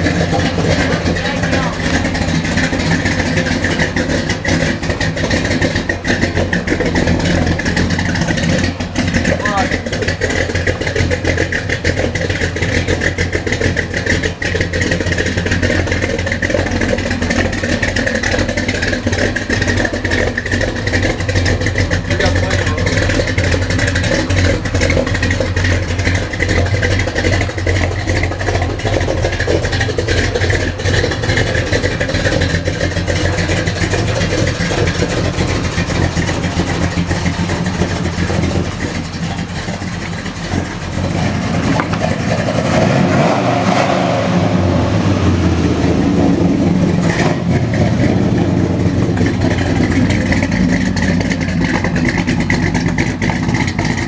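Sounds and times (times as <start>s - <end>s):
car engine lumpy idle: 0.0s - 54.0s.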